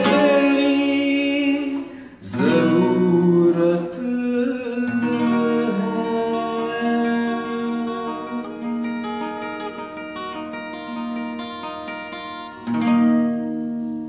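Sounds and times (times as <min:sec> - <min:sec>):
acoustic guitar picking: 0:00.0 - 0:14.0
strummed guitar chord: 0:00.0 - 0:14.0.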